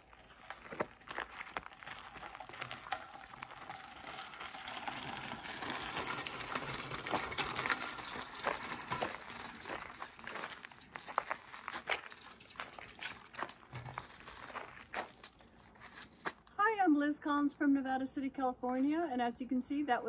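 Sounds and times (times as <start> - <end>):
gravel crunching: 0.0 - 16.6.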